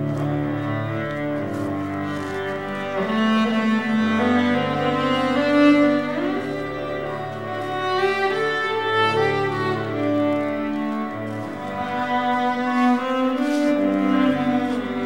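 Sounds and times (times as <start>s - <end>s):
bowed string music: 0.0s - 15.0s.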